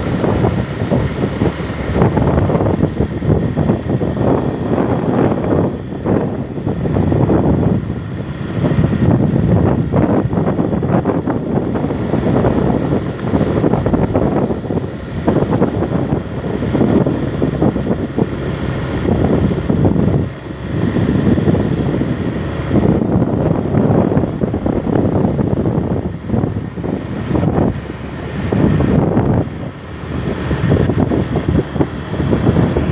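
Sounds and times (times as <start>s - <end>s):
moving vehicle noise: 0.0s - 32.9s
wind buffeting microphone: 0.0s - 32.9s.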